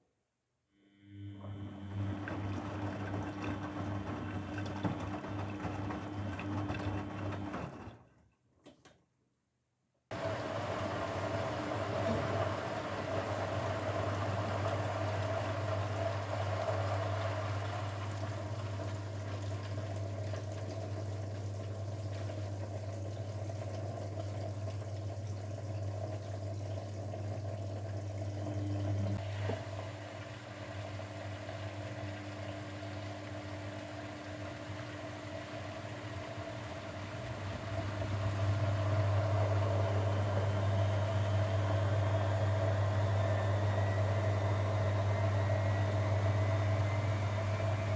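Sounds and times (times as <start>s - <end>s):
washing machine motor hum: 0.9s - 8.2s, 10.1s - 47.9s.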